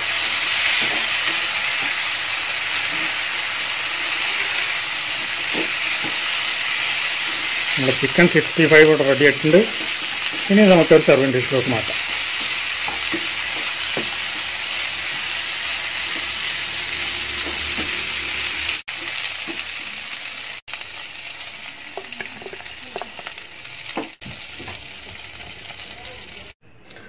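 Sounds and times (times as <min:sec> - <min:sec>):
food sizzling in hot oil: 0:00.0 - 0:26.6.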